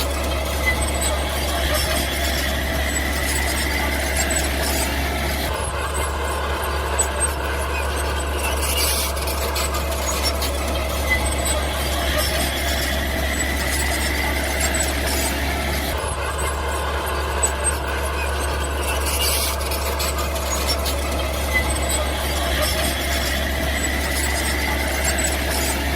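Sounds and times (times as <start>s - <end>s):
bulldozer machine noise: 0.0s - 25.9s
high machine squeal: 0.0s - 25.9s.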